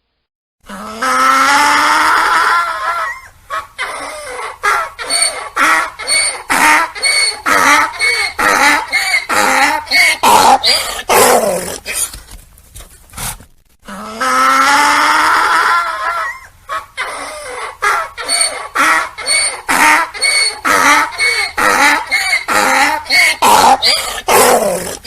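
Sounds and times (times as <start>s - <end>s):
donkey braying: 1.0s - 12.0s, 13.9s - 25.0s.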